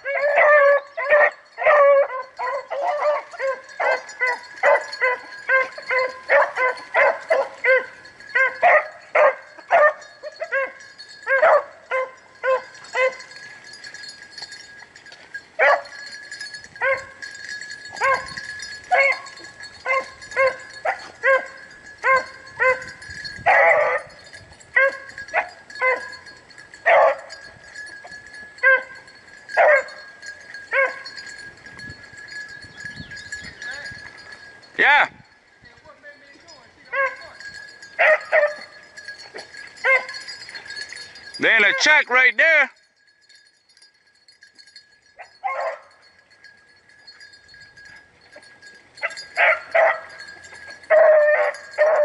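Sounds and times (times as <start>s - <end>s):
hounds baying: 0.0s - 14.6s, 15.6s - 31.5s, 36.8s - 42.0s, 44.7s - 46.4s, 47.0s - 52.0s.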